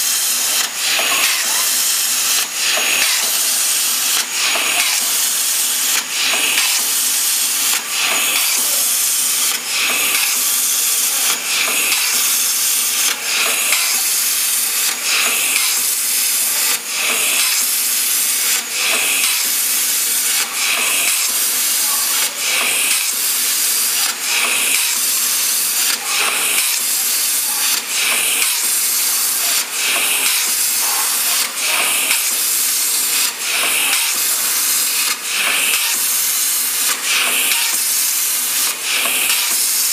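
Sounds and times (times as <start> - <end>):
plasma cutter arc hissing: 0.0 - 39.9.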